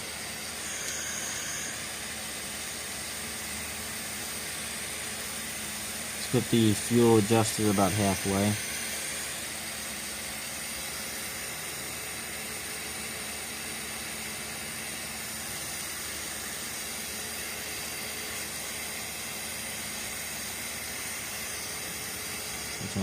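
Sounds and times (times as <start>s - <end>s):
butane torch hissing: 0.0s - 13.0s, 13.9s - 23.0s.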